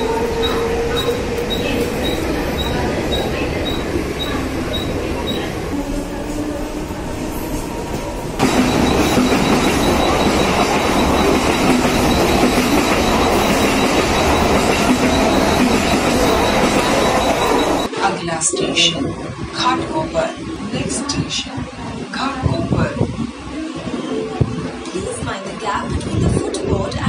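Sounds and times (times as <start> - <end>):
train running on rails: 0.0 - 27.0.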